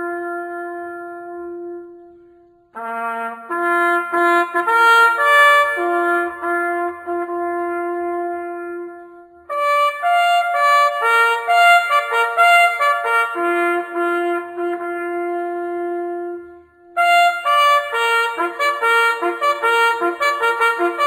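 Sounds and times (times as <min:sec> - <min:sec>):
solo trumpet bugle call: 0:02.8 - 0:21.0.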